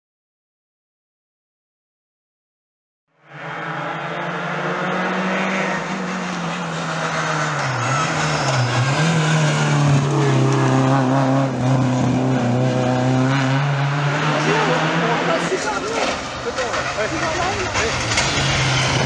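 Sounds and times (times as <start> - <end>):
rally car engine at high revs: 3.2 - 19.0.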